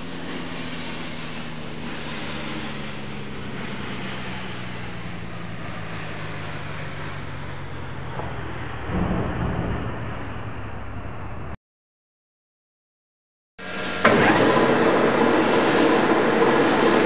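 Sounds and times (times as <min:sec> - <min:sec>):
machinery humming: 0:00.0 - 0:11.6, 0:13.6 - 0:17.0.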